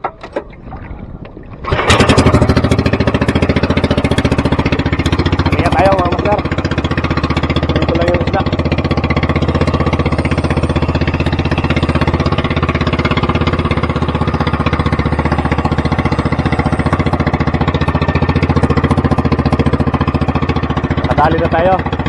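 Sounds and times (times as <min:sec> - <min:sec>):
boat engine running steadily: 0:00.0 - 0:22.0.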